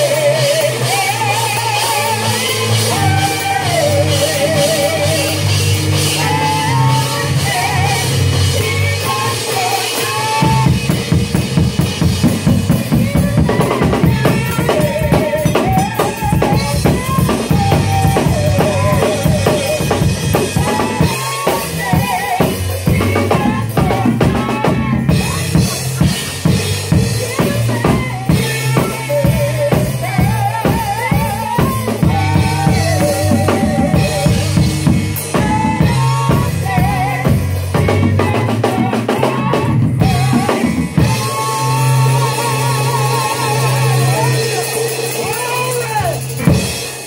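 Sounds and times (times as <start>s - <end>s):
bass line: 0.0s - 47.0s
drum kit playing: 0.0s - 47.0s
person singing with vibrato: 0.0s - 47.0s.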